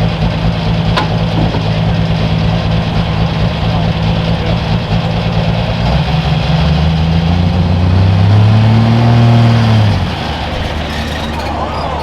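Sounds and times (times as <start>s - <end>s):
diesel tractor engine revving: 0.0s - 12.0s.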